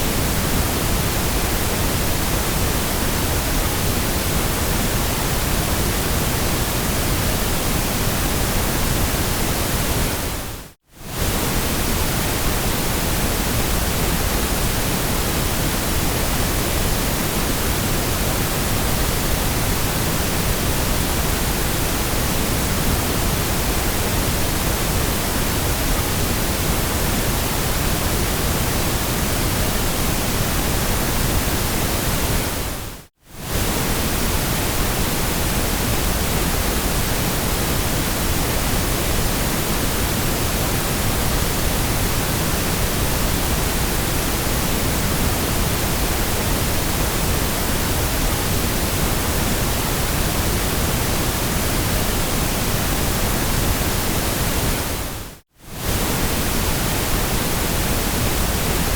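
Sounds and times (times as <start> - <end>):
steady broadband hiss: 0.0 - 58.9.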